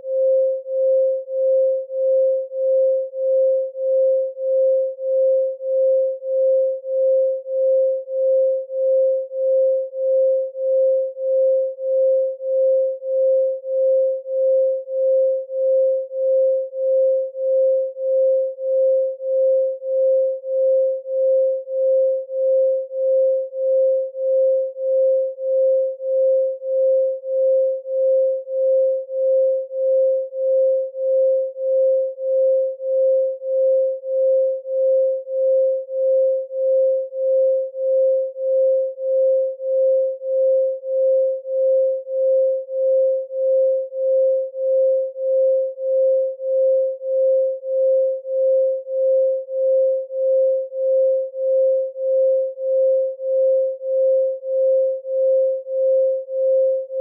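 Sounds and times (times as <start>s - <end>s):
pulsing sine tone: 0.0s - 57.0s.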